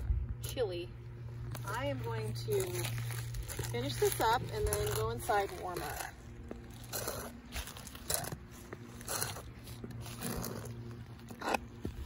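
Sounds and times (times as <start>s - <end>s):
steady low hum: 0.0s - 12.0s
high heel footsteps on concrete: 1.0s - 12.0s.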